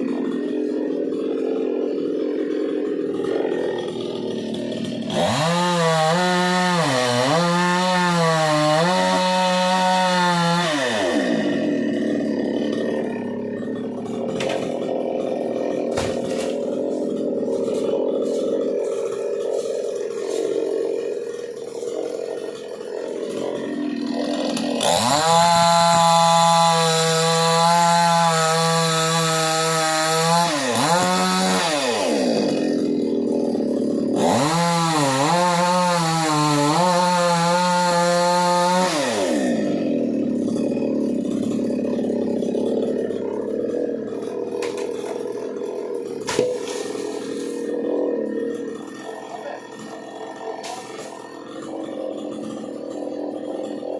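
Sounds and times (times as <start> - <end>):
chainsaw engine revving: 0.0 - 53.9.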